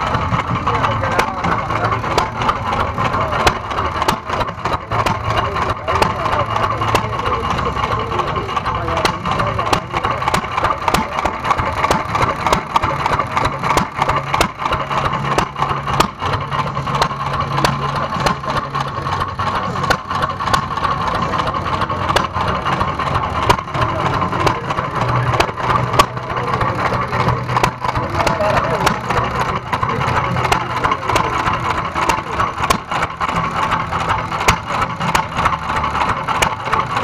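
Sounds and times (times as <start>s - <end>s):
stationary engine running: 0.0s - 37.0s.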